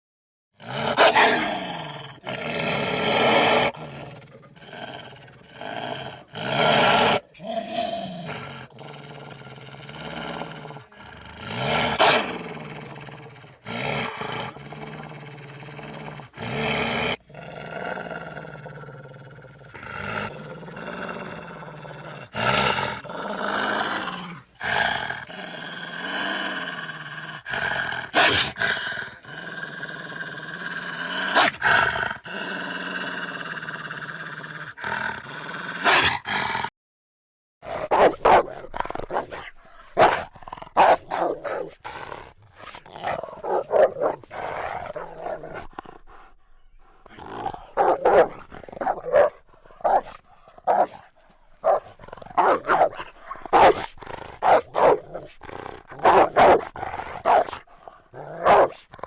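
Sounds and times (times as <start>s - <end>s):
wolves growling and snarling: 0.6s - 36.7s, 37.6s - 59.0s.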